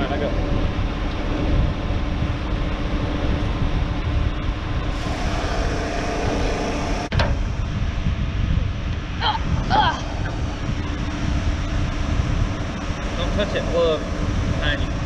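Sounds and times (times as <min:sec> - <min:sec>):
fuel pump humming: 0:00.0 - 0:15.0.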